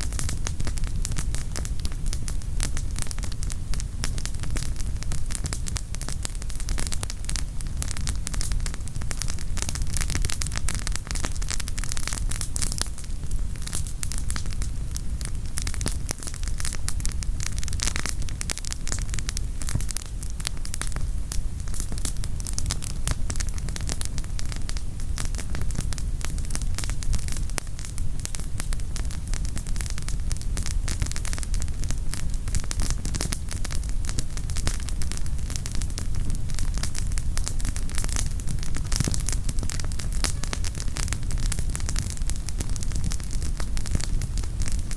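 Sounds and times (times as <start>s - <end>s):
firewood crackling and popping: 0.0s - 44.9s
low fire rumble: 0.0s - 44.9s.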